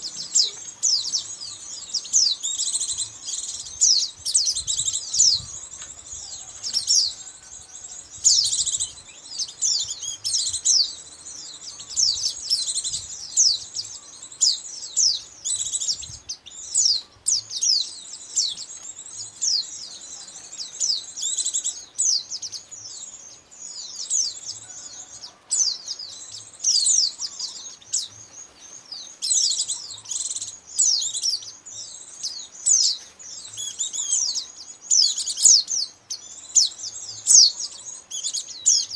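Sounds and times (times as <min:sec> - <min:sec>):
bird chirps and twitters: 0:00.0 - 0:38.9.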